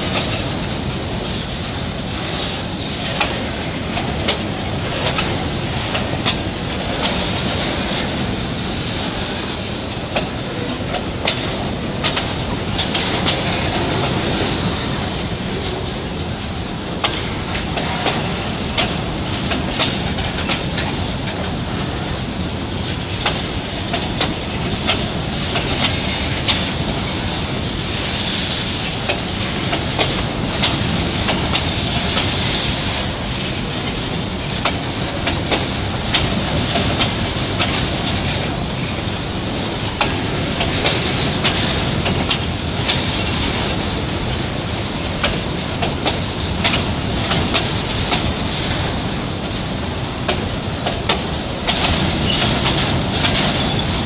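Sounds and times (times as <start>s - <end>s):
wheels clacking over rail joints: 0.0s - 54.0s.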